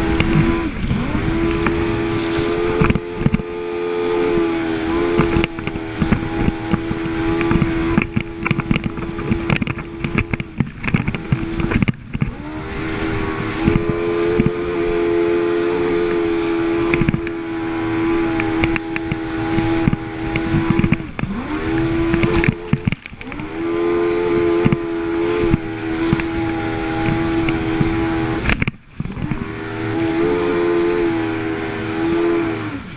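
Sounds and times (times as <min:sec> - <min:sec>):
jet ski engine at high revs: 0:00.0 - 0:32.9.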